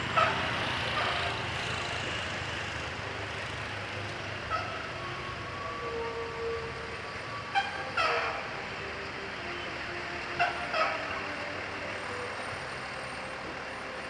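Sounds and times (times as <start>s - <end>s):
engines idling in traffic: 0.0s - 14.0s.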